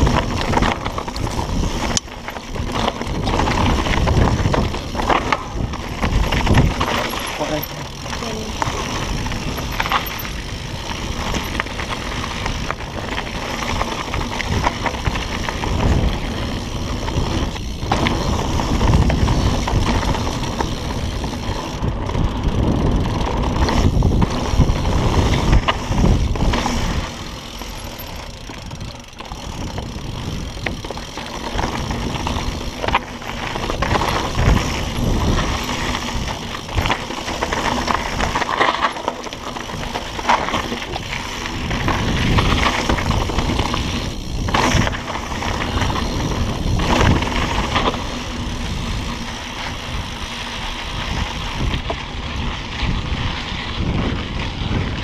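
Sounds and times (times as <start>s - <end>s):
bike knocks and rattles: 0.0s - 50.4s
tyres crunching over dirt and rocks: 0.0s - 52.9s
wind buffeting microphone: 0.0s - 55.0s.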